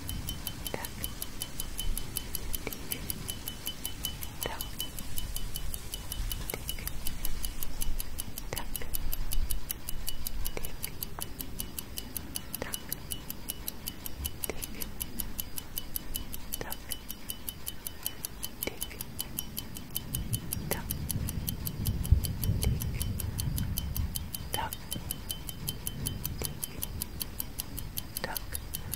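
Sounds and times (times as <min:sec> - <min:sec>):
clock ticking: 0:00.0 - 0:28.9.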